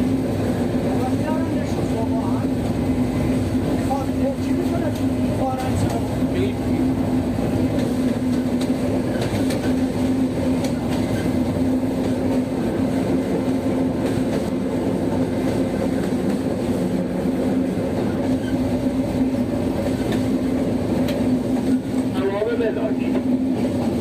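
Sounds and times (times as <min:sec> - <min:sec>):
train carriage hum: 0:00.0 - 0:24.0.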